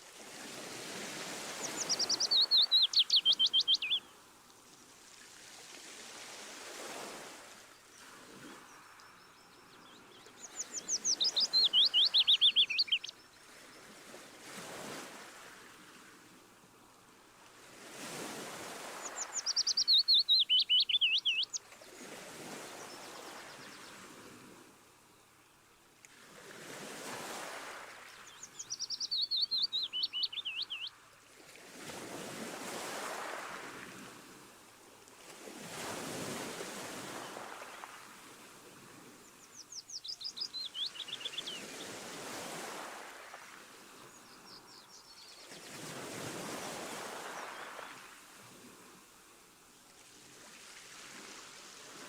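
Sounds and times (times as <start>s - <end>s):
sea waves washing ashore: 0.0s - 25.0s, 26.0s - 52.0s.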